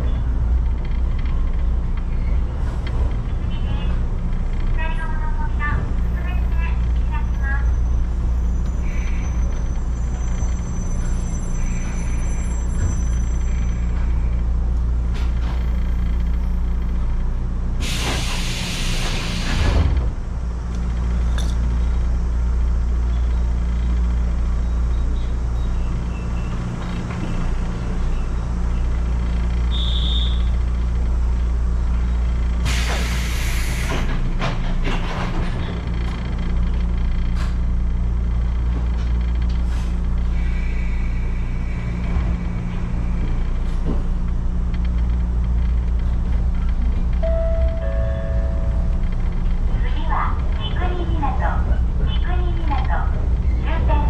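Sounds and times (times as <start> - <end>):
train equipment hum: 0.0 - 54.0.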